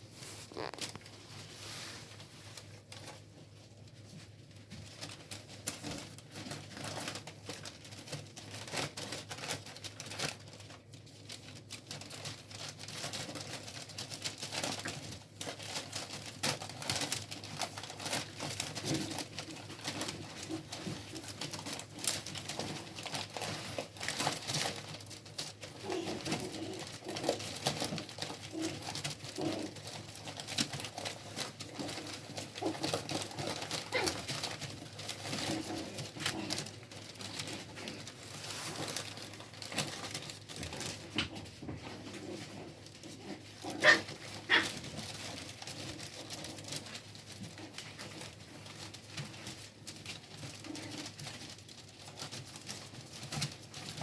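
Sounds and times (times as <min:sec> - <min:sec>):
puppies rustling on crinkly bedding: 0:00.0 - 0:54.0.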